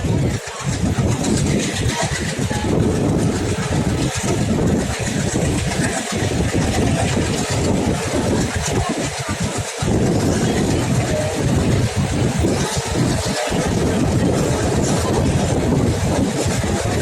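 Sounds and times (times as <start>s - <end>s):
diesel locomotive rumbling: 0.0s - 17.0s
train rushing noise: 0.0s - 17.0s.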